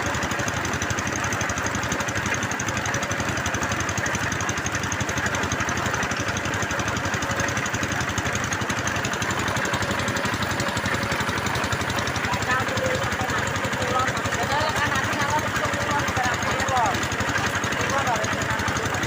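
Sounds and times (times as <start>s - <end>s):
drilling machine engine running: 0.0s - 19.0s.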